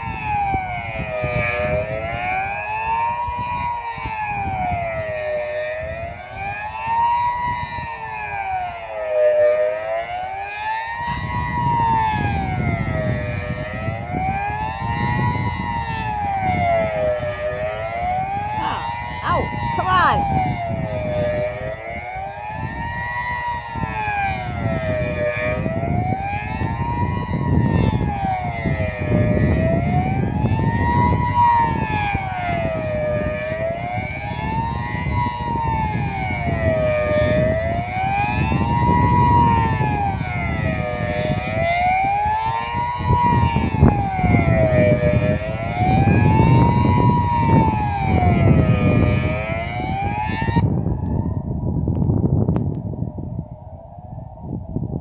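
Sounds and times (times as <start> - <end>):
rising and falling siren: 0.0 - 55.0.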